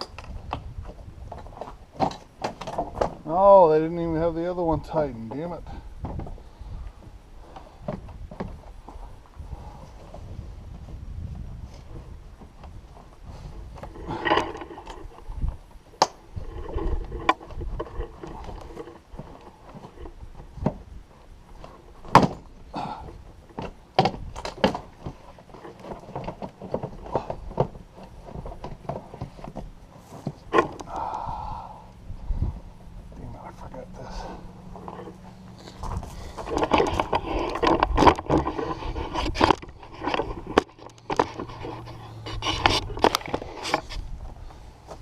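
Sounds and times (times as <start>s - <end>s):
rattling and scraping: 0.0s - 45.0s.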